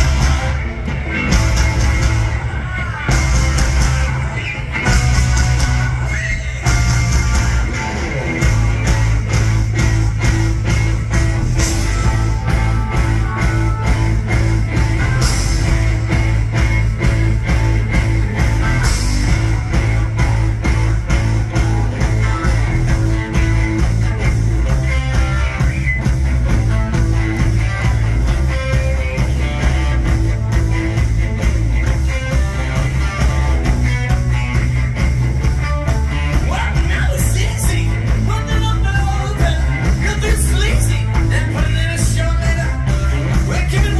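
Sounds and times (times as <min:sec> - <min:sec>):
electric guitars: 0:00.0 - 0:43.9
heavy bass: 0:00.0 - 0:43.9
live rock band playing: 0:00.0 - 0:43.9
steady drum beat: 0:00.0 - 0:43.9.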